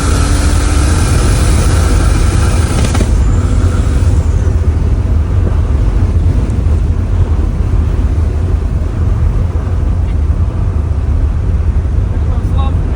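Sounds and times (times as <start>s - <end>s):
car engine low rumble: 0.0s - 12.9s.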